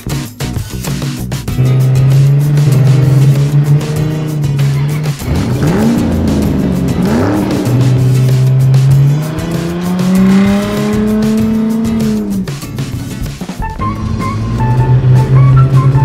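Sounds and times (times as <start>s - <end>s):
background music: 0.0s - 16.0s
sports car engine revving: 1.5s - 16.0s.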